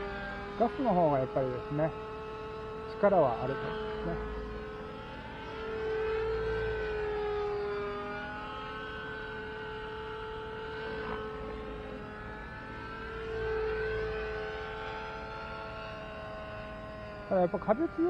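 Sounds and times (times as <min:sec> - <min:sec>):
model helicopter engine whining: 0:00.0 - 0:18.0.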